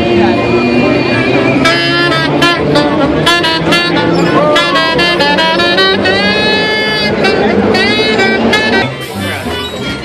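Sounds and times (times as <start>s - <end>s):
swing jazz with saxophone: 1.6s - 10.0s.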